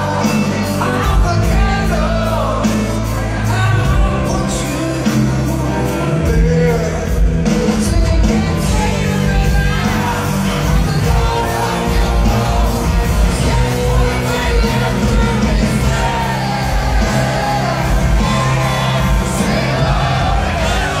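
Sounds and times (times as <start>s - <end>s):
live rock band playing: 0.0s - 21.0s
man singing lead vocal: 0.0s - 21.0s.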